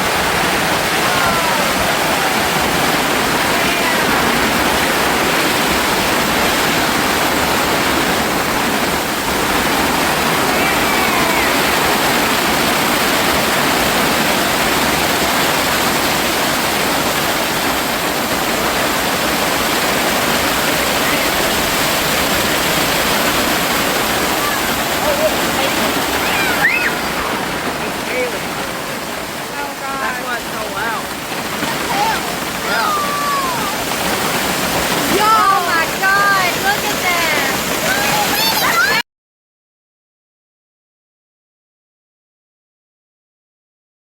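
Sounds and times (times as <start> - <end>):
strong wind: 0.0 - 29.8, 31.1 - 39.0
heavy rain: 0.0 - 39.0.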